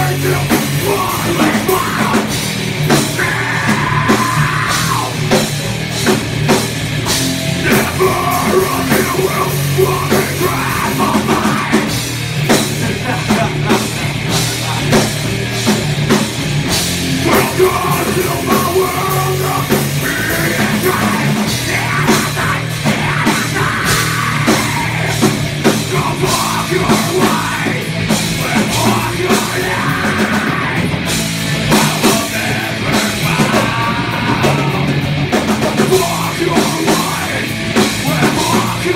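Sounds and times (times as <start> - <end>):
drum kit hits: 0.0 - 38.9
electric guitar: 0.0 - 38.9.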